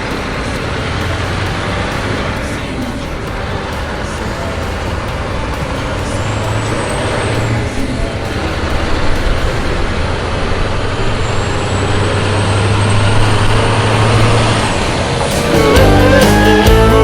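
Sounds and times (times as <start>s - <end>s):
large vehicle engine running: 0.0s - 17.0s.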